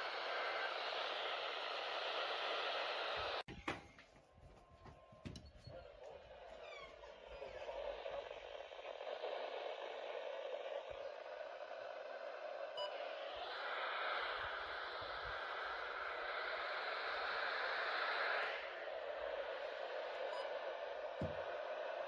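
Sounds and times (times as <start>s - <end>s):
radio static hiss: 0.0s - 3.5s, 5.2s - 22.0s.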